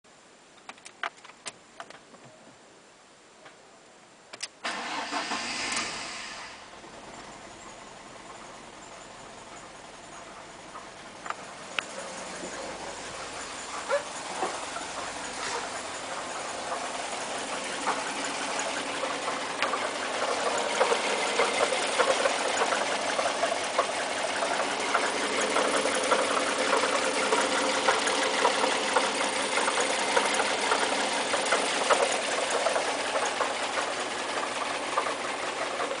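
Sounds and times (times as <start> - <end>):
car engine running: 4.7 - 36.0
rattling ticking engine noise: 6.6 - 36.0.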